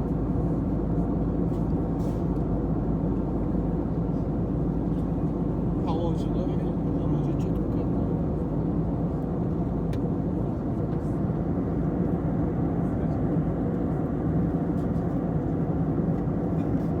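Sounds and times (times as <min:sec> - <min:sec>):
airliner cabin engine drone: 0:00.0 - 0:17.0.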